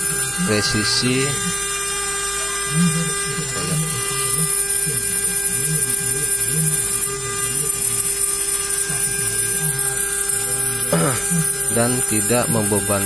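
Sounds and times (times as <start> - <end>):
router spindle milling metal: 0.0 - 13.0.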